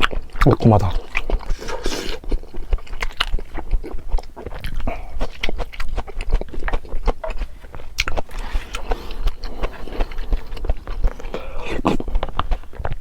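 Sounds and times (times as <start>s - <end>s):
crunchy chewing of food: 0.0s - 13.0s.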